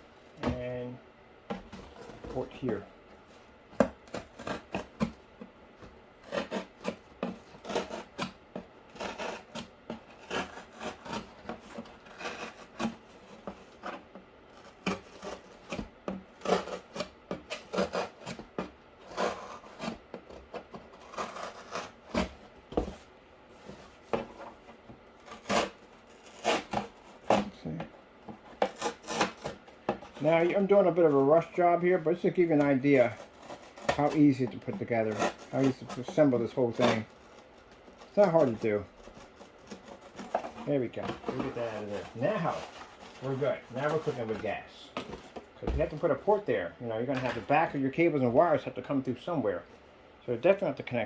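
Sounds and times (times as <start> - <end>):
knife sawing through cardboard: 1.6 - 2.8, 3.8 - 5.2, 6.2 - 23.0, 23.6 - 48.7.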